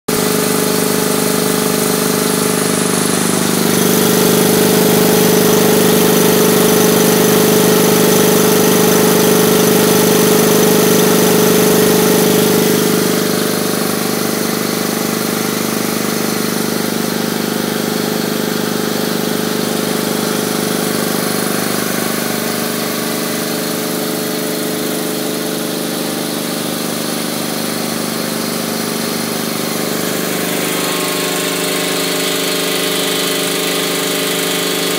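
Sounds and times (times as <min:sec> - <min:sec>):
air compressor humming: 0:00.1 - 0:34.9.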